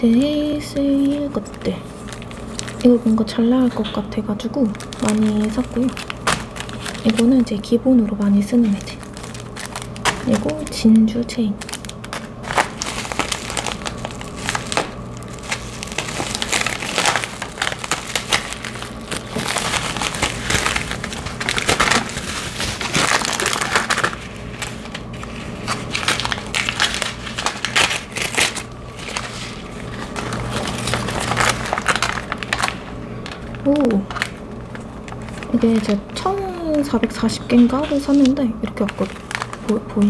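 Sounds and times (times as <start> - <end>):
bubble wrap and paper crinkling: 0.0 - 40.0.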